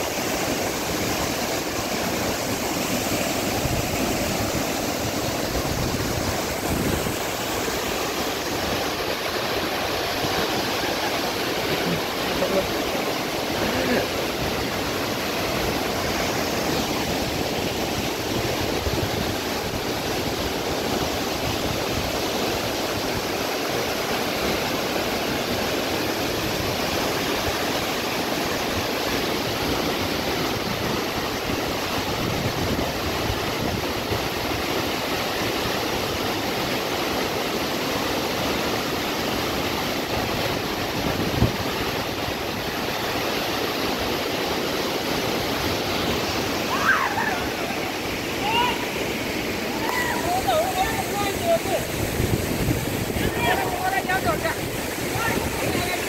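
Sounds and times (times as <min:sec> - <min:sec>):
waterfall rushing onto rocks: 0:00.0 - 0:56.0.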